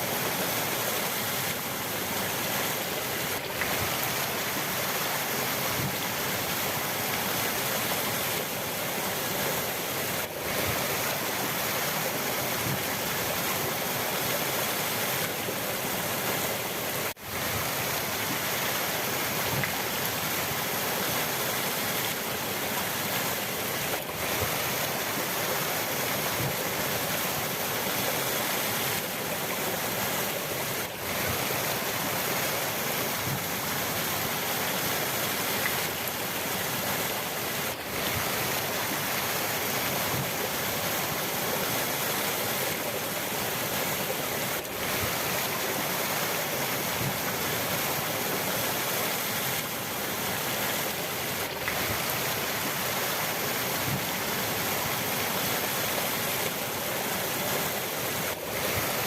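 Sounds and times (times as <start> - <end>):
rushing river water: 0.0 - 59.0.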